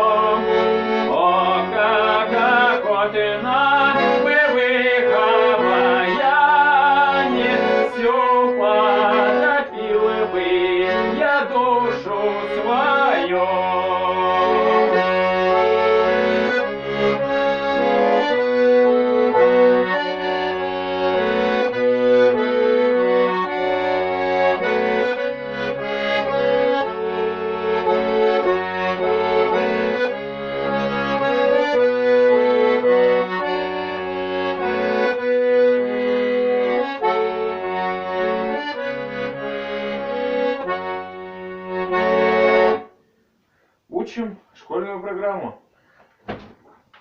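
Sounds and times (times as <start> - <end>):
accordion-like instrumental music: 0.0 - 44.3.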